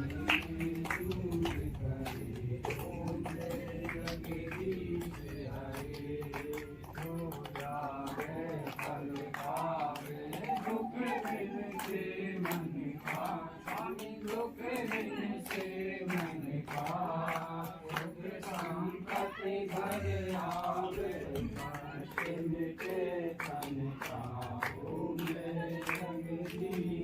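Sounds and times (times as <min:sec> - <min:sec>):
group singing a hymn: 0:00.0 - 0:27.0
hand clapping: 0:00.0 - 0:27.0.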